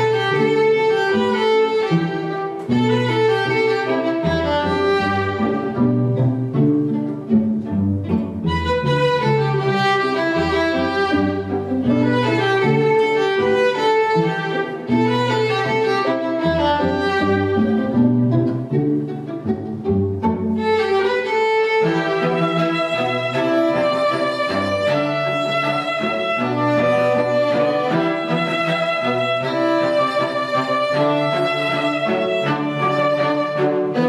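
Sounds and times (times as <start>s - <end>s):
bowed strings melody: 0.0s - 34.0s.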